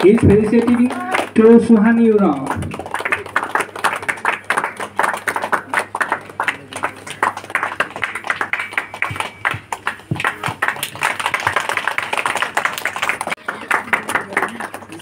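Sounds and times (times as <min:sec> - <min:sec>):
crowd clapping: 0:00.0 - 0:15.0.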